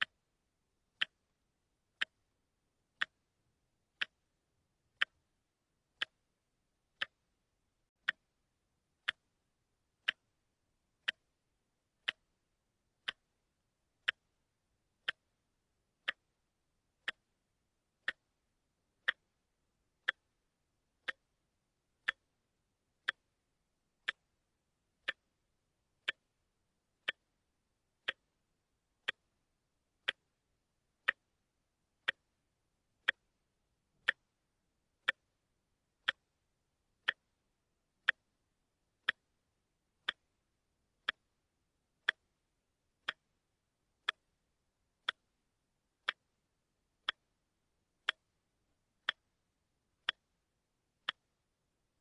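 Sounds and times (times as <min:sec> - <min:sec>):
watch ticking: 0:00.0 - 0:52.0.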